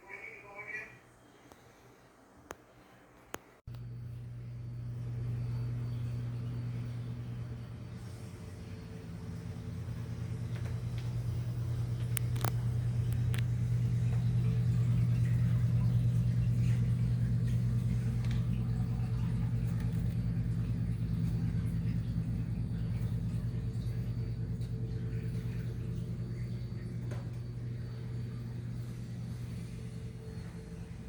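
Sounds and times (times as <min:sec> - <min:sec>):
aquarium pumps humming: 0:00.0 - 0:31.0.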